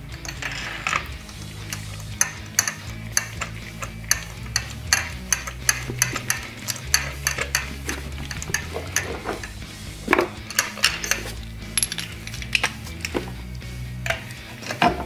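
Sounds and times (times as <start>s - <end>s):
hand ratchet clicking: 0.1s - 9.6s, 10.4s - 13.2s.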